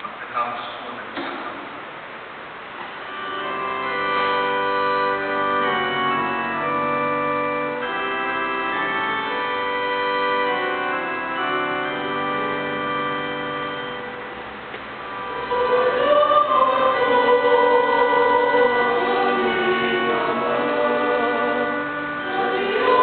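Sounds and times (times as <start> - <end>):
church organ playing held chords: 2.9 - 23.0.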